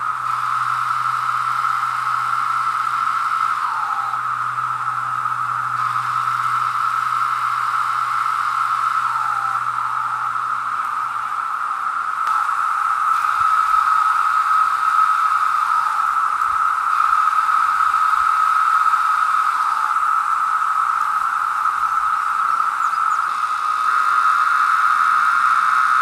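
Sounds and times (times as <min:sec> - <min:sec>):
cicada call sliding down: 0:00.0 - 0:26.0
cicadas droning buzz: 0:00.0 - 0:26.0.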